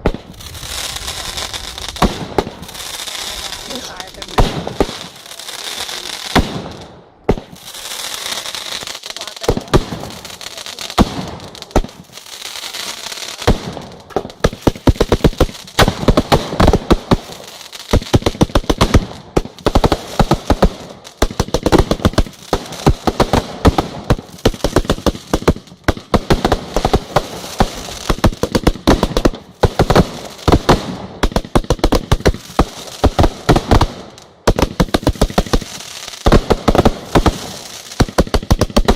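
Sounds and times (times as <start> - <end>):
fireworks hissing and crackling: 0.0 - 38.9
rapid volley of firework bangs: 0.0 - 38.9.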